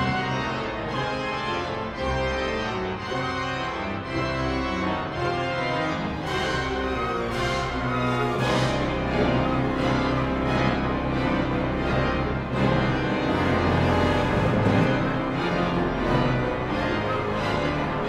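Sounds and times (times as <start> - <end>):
pipe organ playing chords: 0.0 - 18.0.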